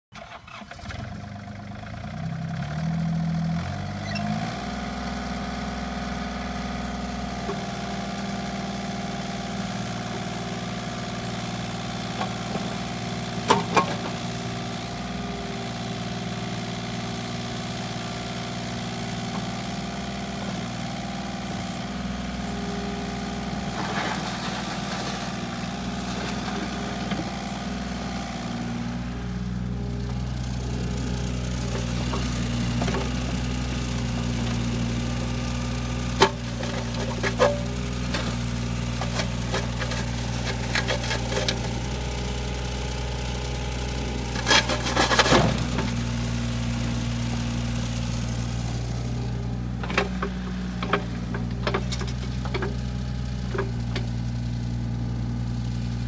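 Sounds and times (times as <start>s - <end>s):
excavator diesel engine running: 0.2s - 56.0s.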